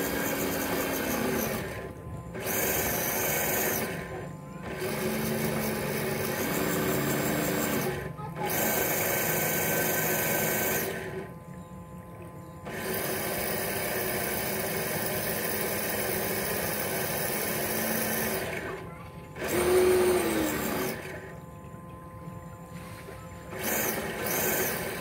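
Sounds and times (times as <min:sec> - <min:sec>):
model boat motor buzzing: 0:00.0 - 0:25.0.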